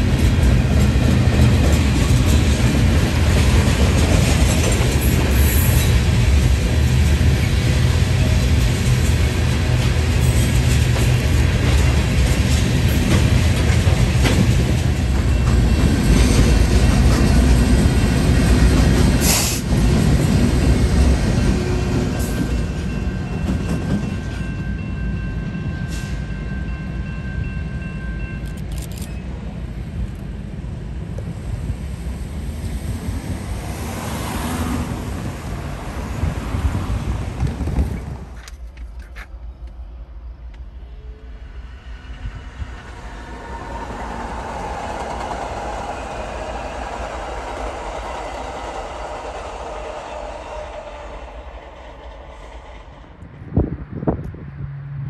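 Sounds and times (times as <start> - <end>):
freight train rolling on rails: 0.0 - 55.0.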